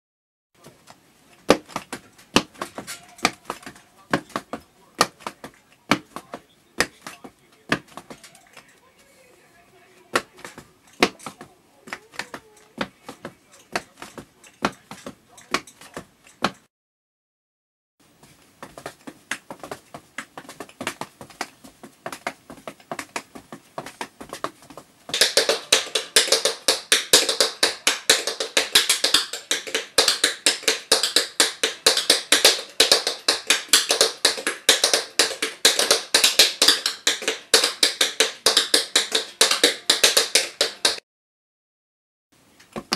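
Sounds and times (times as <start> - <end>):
tap shoes clicking on hard floor: 1.4 - 8.7, 10.1 - 16.7, 18.3 - 41.0.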